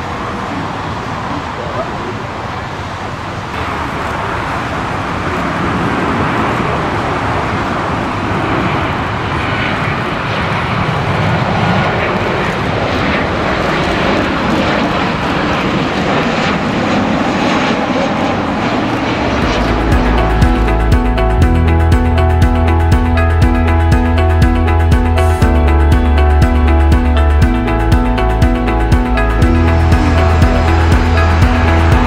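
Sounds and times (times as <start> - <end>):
jet engines of airliner: 0.0 - 32.0.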